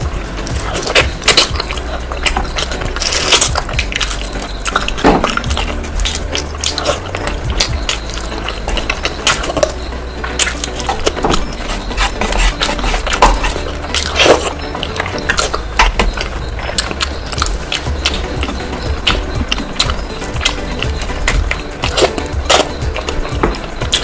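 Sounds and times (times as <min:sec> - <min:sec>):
steady low hum: 0:00.0 - 0:24.0
wet chewing and mouth smacks: 0:00.0 - 0:24.0.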